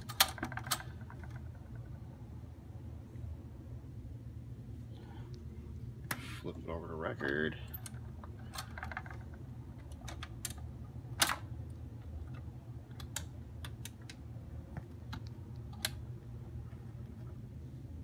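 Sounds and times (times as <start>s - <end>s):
record changer hum: 0.0s - 18.0s.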